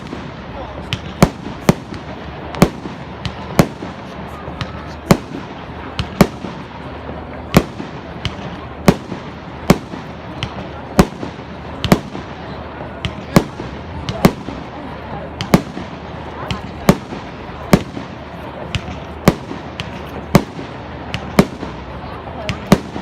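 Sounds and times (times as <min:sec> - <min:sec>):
background murmur: 0:00.0 - 0:23.0
fireworks bangs: 0:00.0 - 0:23.0.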